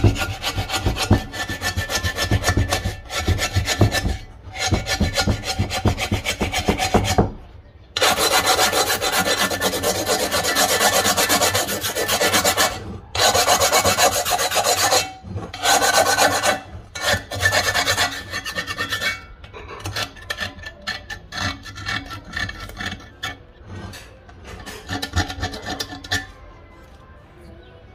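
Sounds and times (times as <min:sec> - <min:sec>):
knife scraping metal pot: 0:00.0 - 0:26.5.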